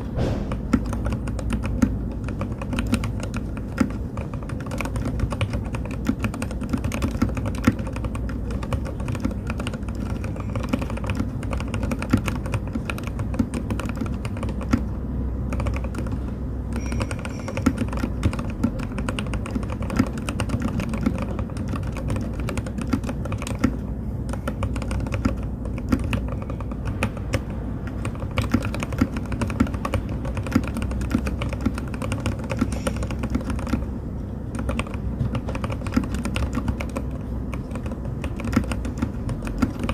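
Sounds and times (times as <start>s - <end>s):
mechanical keyboard typing: 0.5s - 39.9s.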